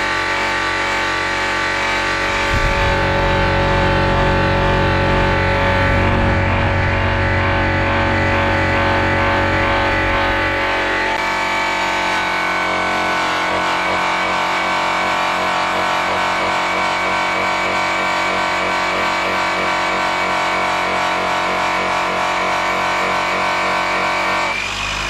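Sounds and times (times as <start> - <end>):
rotary polisher running: 0.0 - 25.0.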